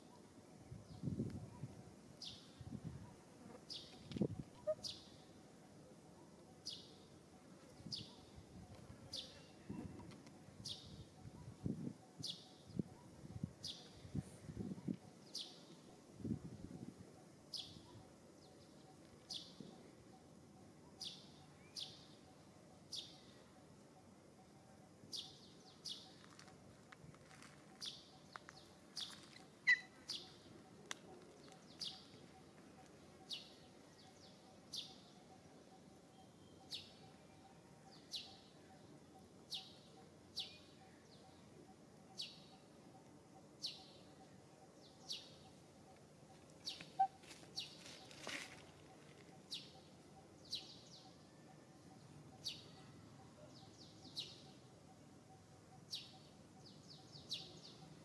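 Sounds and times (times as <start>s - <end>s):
bird chirping: 0.0s - 26.4s, 27.7s - 58.0s.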